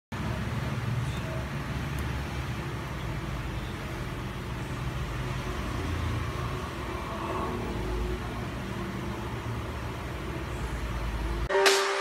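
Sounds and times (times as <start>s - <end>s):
low rumble and hiss: 0.2s - 11.5s.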